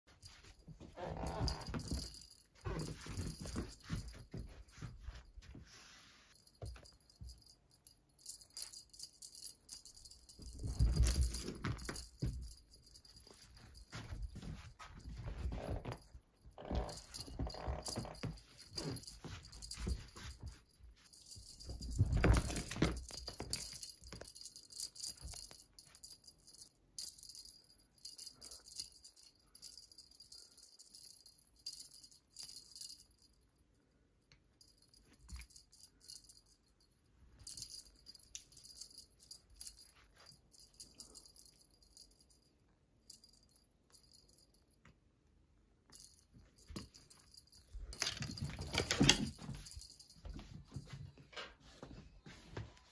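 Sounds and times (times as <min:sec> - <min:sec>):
wand toy rattling and jingling: 0:00.0 - 0:33.5, 0:34.6 - 0:44.8, 0:45.9 - 0:52.0.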